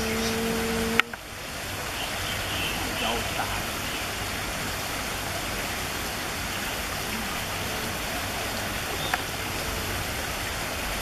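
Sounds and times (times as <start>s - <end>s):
running water: 0.0s - 11.0s.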